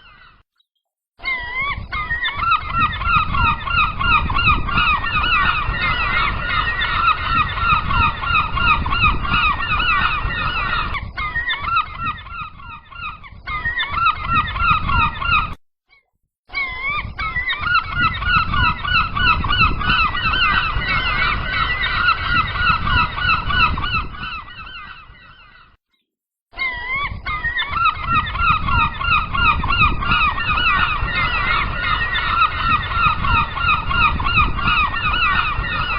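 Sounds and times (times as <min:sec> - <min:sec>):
gulls calling: 0:00.0 - 0:00.4, 0:01.2 - 0:15.6, 0:16.5 - 0:25.8, 0:26.6 - 0:35.9.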